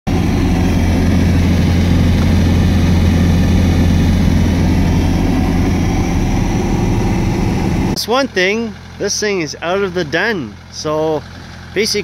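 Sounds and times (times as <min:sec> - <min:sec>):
diesel engine idling: 0:00.1 - 0:12.0.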